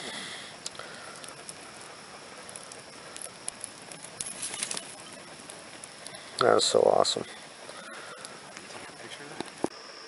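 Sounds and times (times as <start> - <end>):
campfire crackling and popping: 0.0 - 9.8
fire hissing: 0.0 - 10.0.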